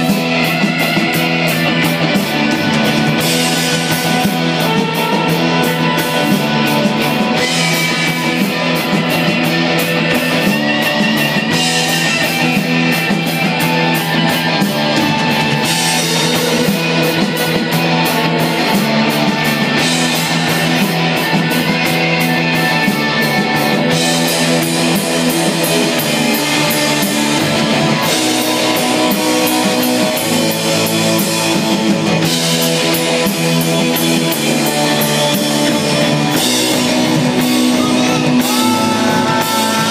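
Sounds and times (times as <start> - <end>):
drum kit with cymbals: 0.0 - 39.9
electric guitars: 0.0 - 39.9.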